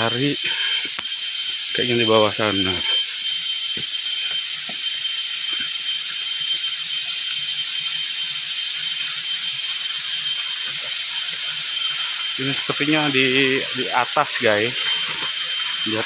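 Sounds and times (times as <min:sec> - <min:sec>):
forest insects buzzing trill: 0:00.0 - 0:16.0
sustained whining tones: 0:00.0 - 0:16.0.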